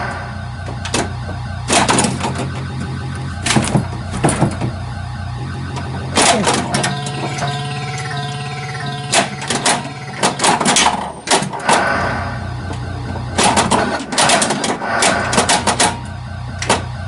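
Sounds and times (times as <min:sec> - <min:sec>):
flipper and solenoid clacks: 0:00.0 - 0:17.0
pinball electronic sound effects: 0:00.0 - 0:17.0.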